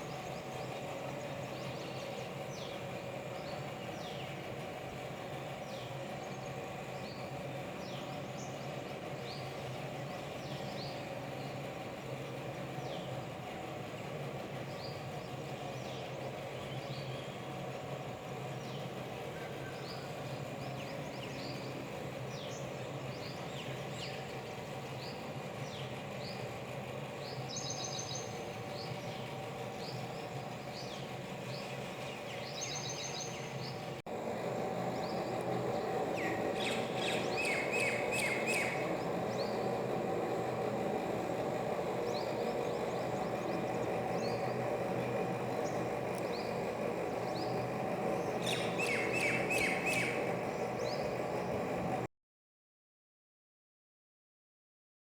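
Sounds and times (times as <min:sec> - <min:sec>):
birds chirping: 0:00.0 - 0:52.0
street and traffic hum: 0:00.0 - 0:52.1.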